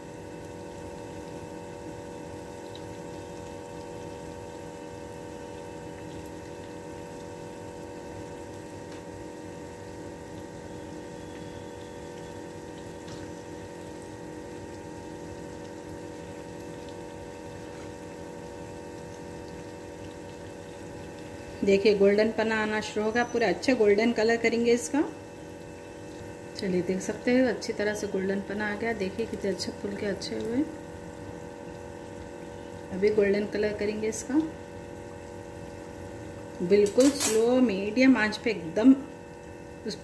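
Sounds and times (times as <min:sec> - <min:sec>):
dough sizzling in oil: 0:00.0 - 0:40.0.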